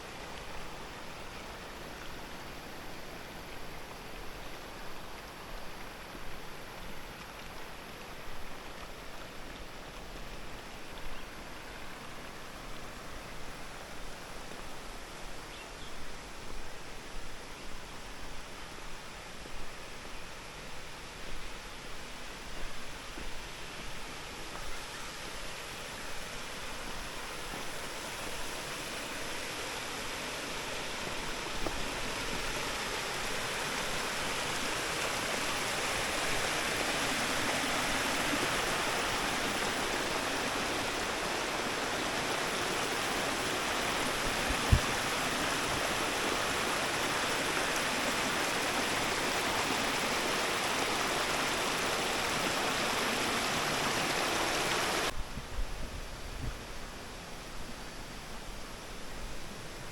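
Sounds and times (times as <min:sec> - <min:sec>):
waterfall rushing and splashing: 0:00.0 - 0:55.2.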